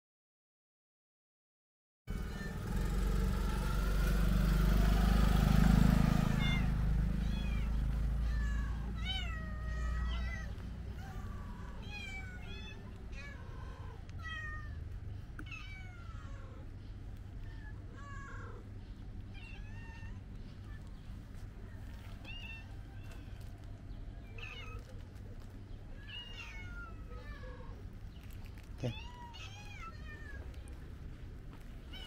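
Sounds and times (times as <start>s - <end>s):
cats meowing: 2.1s - 3.8s, 5.8s - 32.0s.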